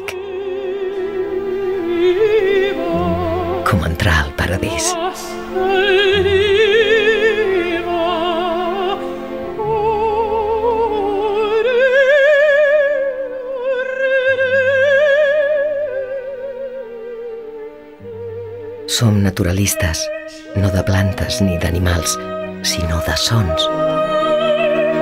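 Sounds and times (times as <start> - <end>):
operatic voice singing: 0.0 - 17.5, 18.1 - 25.0
low held accompaniment: 0.0 - 25.0.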